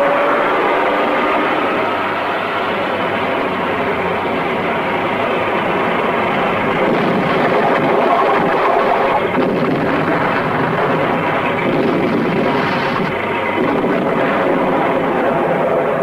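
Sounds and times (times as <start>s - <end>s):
tank engines and tracks running: 0.0s - 16.0s.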